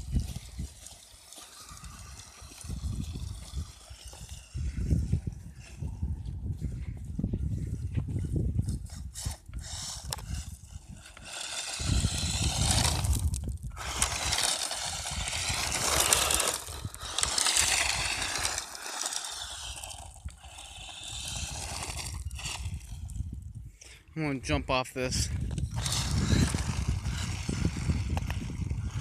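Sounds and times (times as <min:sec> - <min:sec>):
drivetrain and tyre noise: 0:00.0 - 0:05.8, 0:08.0 - 0:23.6, 0:25.4 - 0:29.0
electric motor whining: 0:00.0 - 0:05.9, 0:08.6 - 0:23.5, 0:25.3 - 0:29.0.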